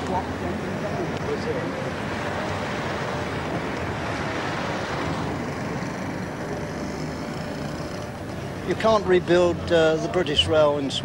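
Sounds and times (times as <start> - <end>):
cars passing on road: 0.0 - 11.0.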